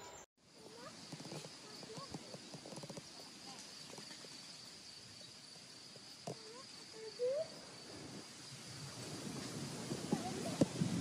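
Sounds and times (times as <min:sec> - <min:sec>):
insect song: 0:00.0 - 0:11.0.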